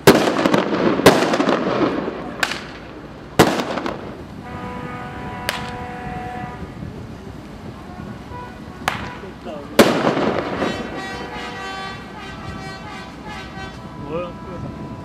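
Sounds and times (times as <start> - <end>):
firecrackers crackling and banging: 0.0 - 13.8.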